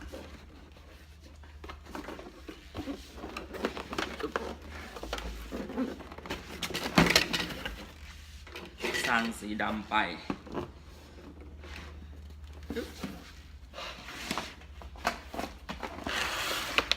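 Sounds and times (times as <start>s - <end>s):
cardboard packaging rustling: 0.0s - 16.9s.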